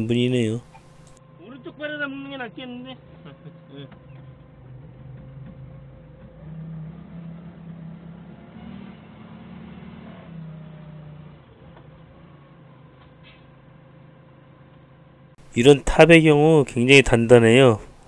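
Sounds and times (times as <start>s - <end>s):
forklift engine running: 0.0s - 1.4s, 2.2s - 18.0s.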